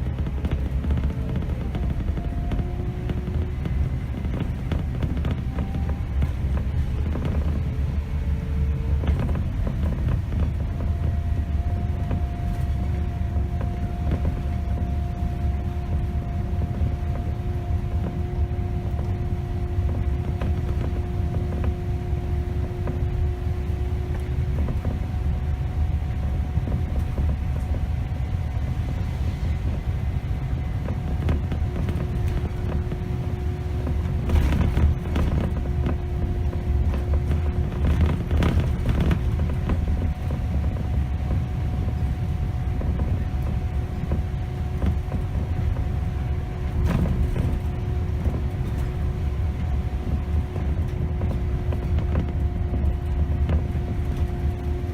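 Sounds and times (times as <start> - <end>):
bus diesel engine rumbling: 0.0 - 54.9
constant whine: 0.0 - 54.9
knocks and rattles: 0.0 - 54.9.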